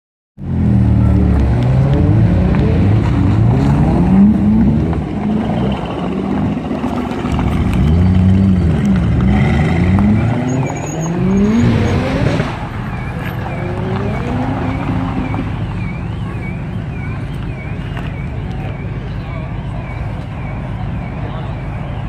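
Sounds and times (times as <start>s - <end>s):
car engine revving: 0.4s - 22.0s
exhaust crackles and pops: 1.0s - 20.8s.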